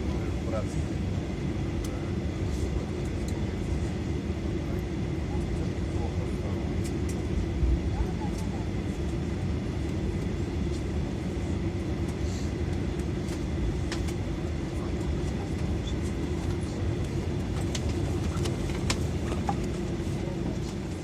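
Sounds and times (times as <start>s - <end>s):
aircraft cabin low rumble: 0.0s - 21.0s
aircraft engine hum: 0.0s - 21.0s.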